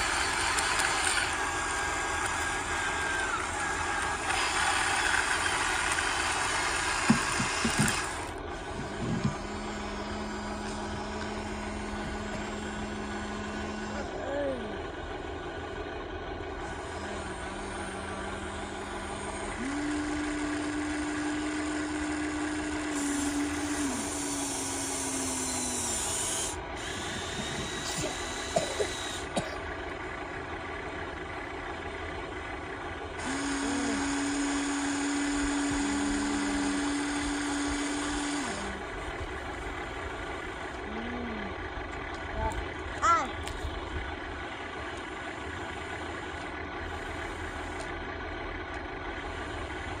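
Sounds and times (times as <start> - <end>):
electric motors whining: 0.0 - 50.0.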